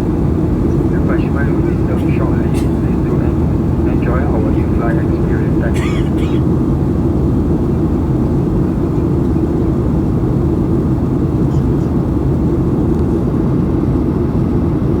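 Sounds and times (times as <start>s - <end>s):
rushing airflow: 0.0s - 13.8s
airplane cabin engine rumble: 0.0s - 15.0s.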